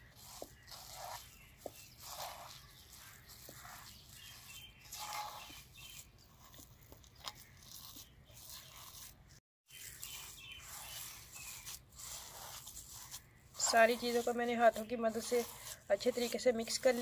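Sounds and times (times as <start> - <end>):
hands kneading squelchy paste: 0.0 - 17.0.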